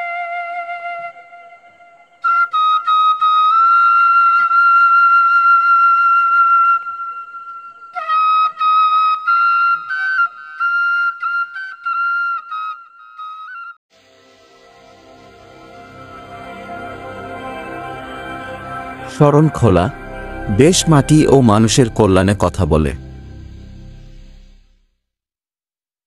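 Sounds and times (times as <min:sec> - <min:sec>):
solo flute music: 0:00.0 - 0:24.8.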